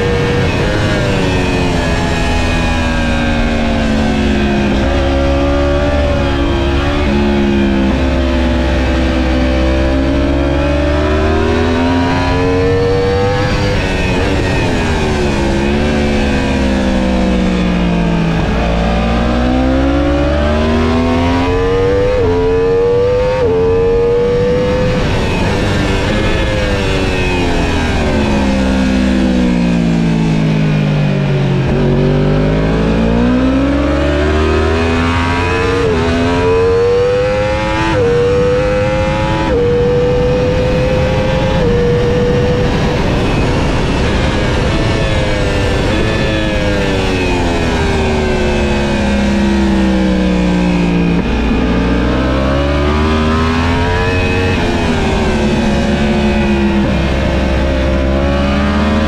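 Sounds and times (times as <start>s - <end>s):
wind rush: 0.0s - 34.0s, 34.6s - 59.0s
motorcycle engine at high revs: 0.0s - 59.0s.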